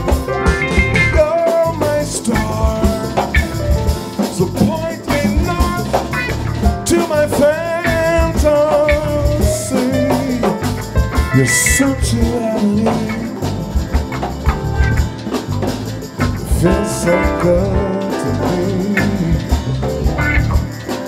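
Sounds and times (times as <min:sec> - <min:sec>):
drum kit: 0:00.0 - 0:21.0
held melody notes: 0:00.0 - 0:21.0
keyboards: 0:00.0 - 0:21.0.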